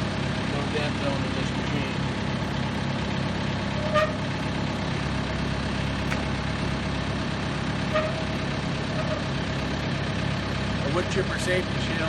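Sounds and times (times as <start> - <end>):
wood chipper engine idling: 0.0 - 12.0.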